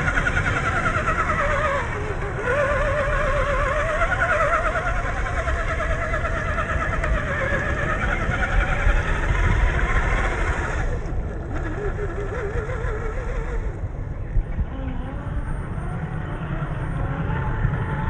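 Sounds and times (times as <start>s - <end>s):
electric motor whine: 0.0s - 18.0s.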